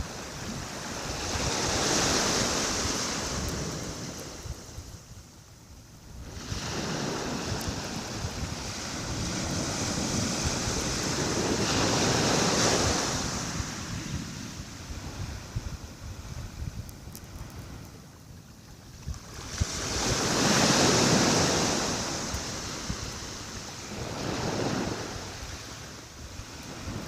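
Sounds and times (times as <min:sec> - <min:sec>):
small waves washing onto shore: 0:00.0 - 0:05.3, 0:06.1 - 0:27.0
wind rumble on microphone: 0:00.0 - 0:27.0.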